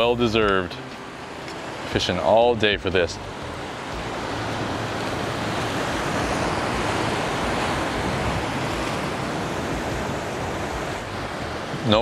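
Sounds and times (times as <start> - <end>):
ocean surf on rocks: 0.0 - 12.0.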